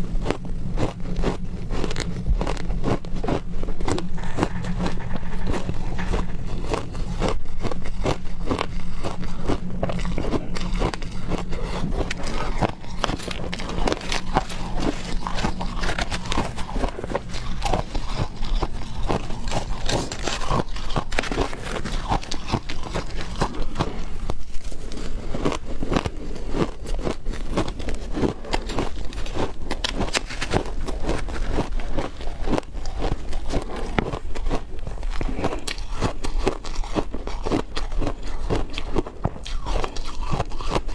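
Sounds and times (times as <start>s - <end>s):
biting and crunching ice: 0.0s - 40.9s.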